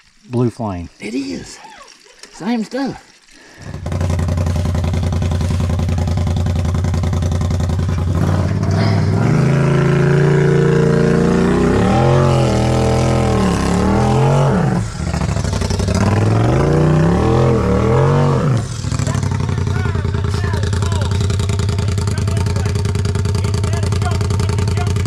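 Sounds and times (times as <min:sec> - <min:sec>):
engine idling and revving: 0:03.7 - 0:25.0.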